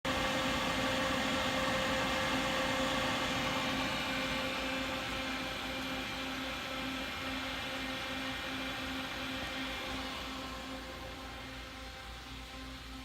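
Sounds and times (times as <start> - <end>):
machinery hum: 0.1 - 13.0.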